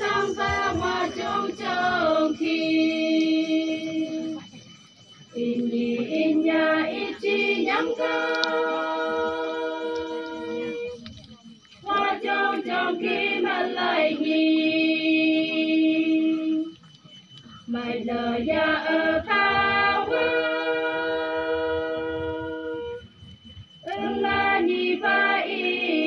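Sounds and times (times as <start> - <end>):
women singing unaccompanied: 0.0 - 4.6, 5.3 - 11.1, 11.8 - 16.8, 17.7 - 23.0, 23.8 - 26.0.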